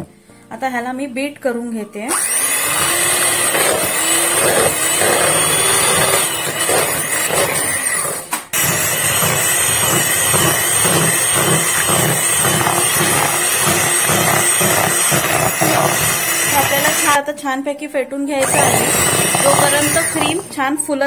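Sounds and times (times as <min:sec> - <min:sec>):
electric hand mixer whipping cream: 0:02.1 - 0:17.2, 0:18.4 - 0:20.7.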